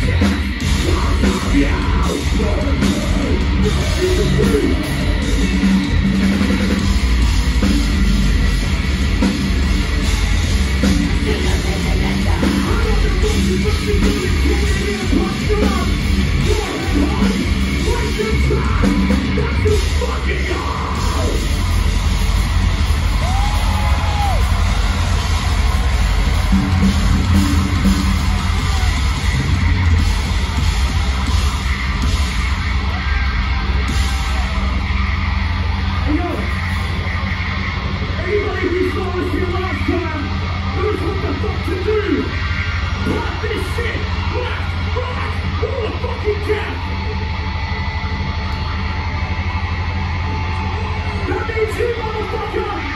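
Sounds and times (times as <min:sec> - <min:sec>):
metalcore band playing live: 0:00.0 - 0:52.9.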